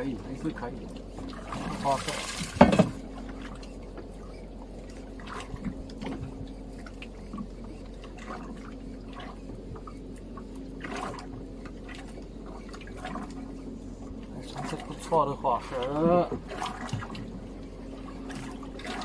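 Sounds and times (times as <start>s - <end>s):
faint steady hum: 0.0s - 19.0s
water sloshing and dripping: 0.0s - 19.0s.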